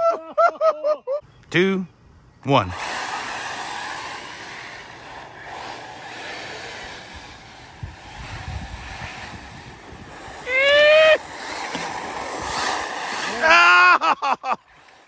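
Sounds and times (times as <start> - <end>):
rc cars racing on dirt: 2.6 - 15.0.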